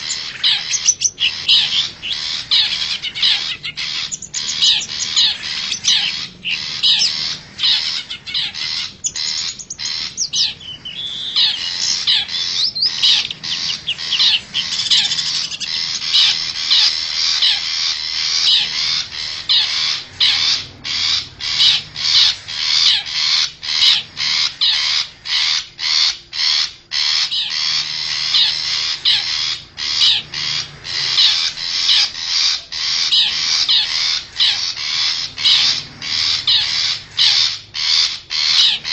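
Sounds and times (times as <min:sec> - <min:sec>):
bird chattering and scolding: 0:00.0 - 0:38.9.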